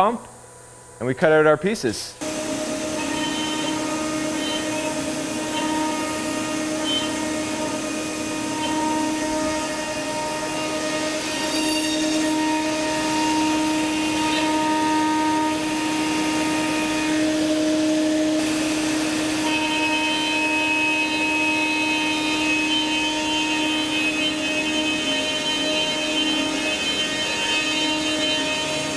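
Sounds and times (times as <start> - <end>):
router spindle whine: 2.2 - 28.9
vacuum pump running: 2.2 - 28.9.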